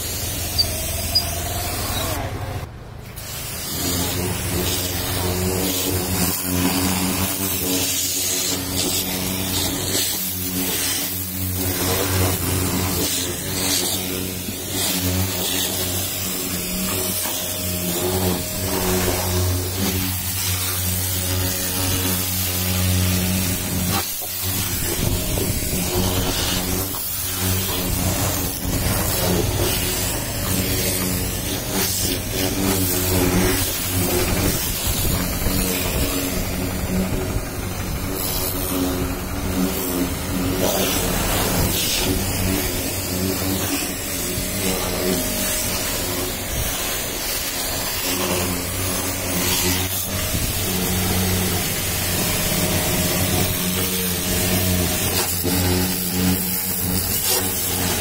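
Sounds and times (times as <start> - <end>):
pressure washer motor hum: 0.0 - 58.0
water jet hissing: 0.0 - 58.0.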